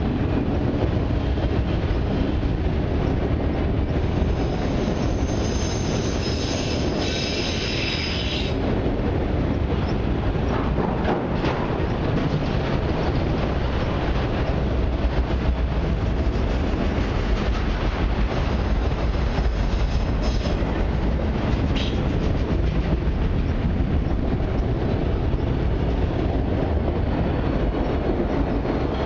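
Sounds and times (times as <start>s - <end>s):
steel wheels rumbling on rails: 0.0s - 29.0s.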